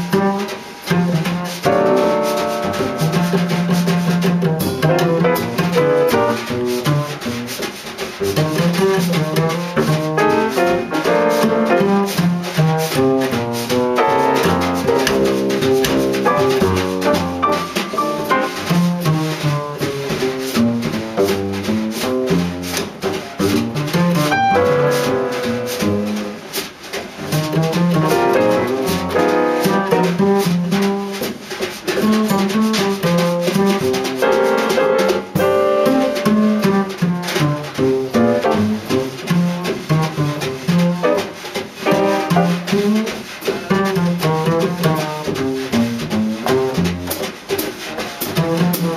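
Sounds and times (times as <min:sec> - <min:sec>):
double bass: 0:00.0 - 0:26.5, 0:27.1 - 0:31.3, 0:32.0 - 0:47.3, 0:48.2 - 0:48.9
drums and cymbals: 0:00.0 - 0:48.9
piano: 0:00.0 - 0:48.9.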